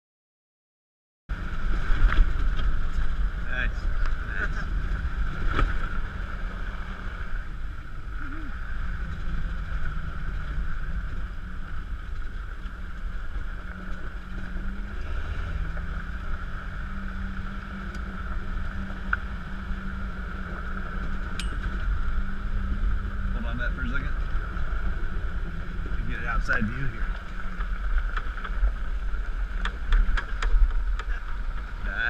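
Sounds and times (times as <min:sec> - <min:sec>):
motor drone: 0:01.3 - 0:32.0
wind rumble on microphone: 0:01.3 - 0:32.0.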